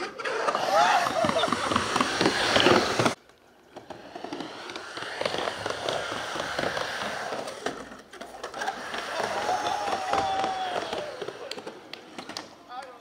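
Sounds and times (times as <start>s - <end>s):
skateboard wheels rolling on wood: 0.0s - 12.8s.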